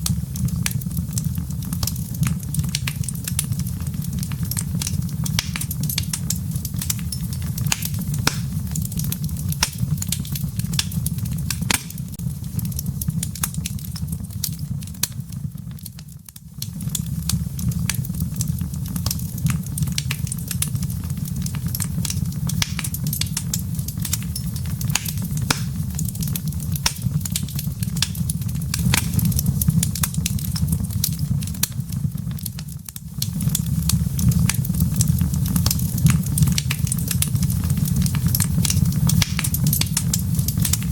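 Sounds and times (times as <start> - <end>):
fireplace fire crackling: 0.0 - 40.9
low rumble of burning: 0.0 - 40.9.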